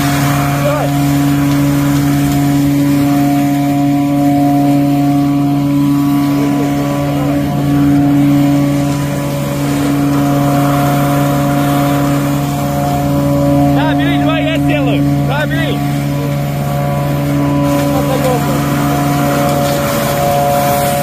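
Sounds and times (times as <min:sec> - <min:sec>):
hose sucking water and mud: 0:00.0 - 0:21.0
vacuum excavator droning: 0:00.0 - 0:21.0.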